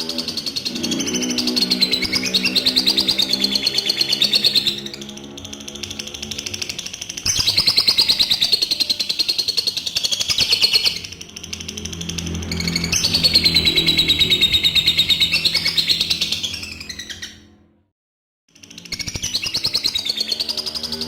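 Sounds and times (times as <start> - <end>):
lovebird chattering: 0.0 - 17.4.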